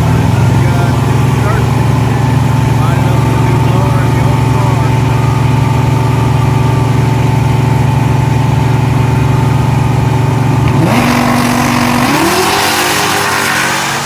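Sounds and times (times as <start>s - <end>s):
drag car engine rumble: 0.0s - 14.0s
supercharger whine: 0.0s - 14.0s.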